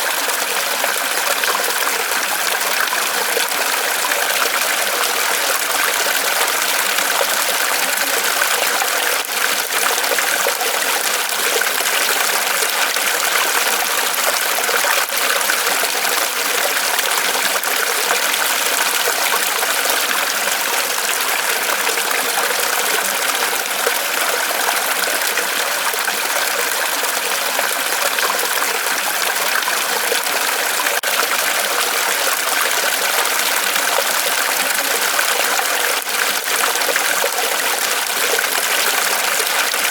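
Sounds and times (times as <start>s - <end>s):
water pouring and splashing: 0.0s - 39.9s.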